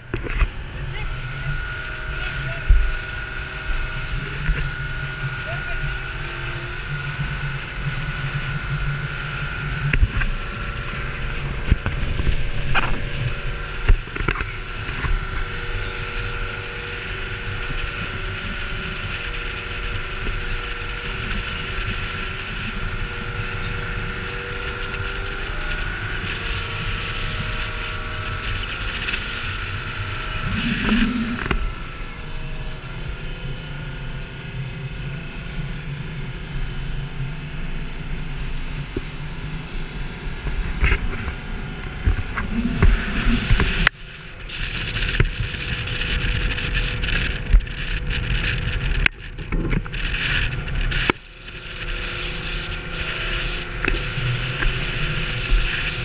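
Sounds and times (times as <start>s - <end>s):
outboard motor running: 0.0s - 56.0s
wind and water noise: 0.0s - 56.0s.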